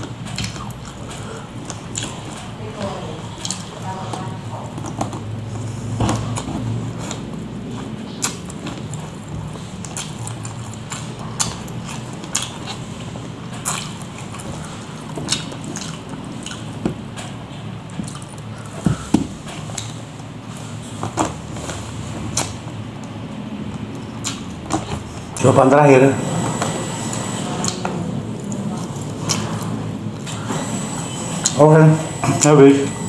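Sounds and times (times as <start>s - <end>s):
man chewing: 0.0s - 2.6s, 3.2s - 33.0s
steady low hum: 0.0s - 33.0s.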